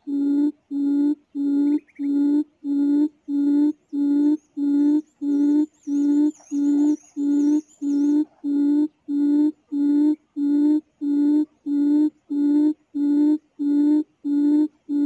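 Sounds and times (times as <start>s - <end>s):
faint high warbling whistle: 0.0s - 15.0s.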